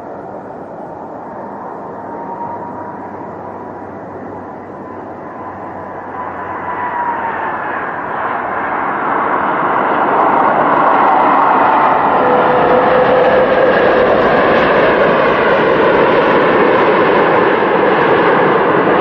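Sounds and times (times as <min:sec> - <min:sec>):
airliner rolling on runway: 0:00.0 - 0:19.0
jet engine roar with high whine: 0:00.0 - 0:19.0.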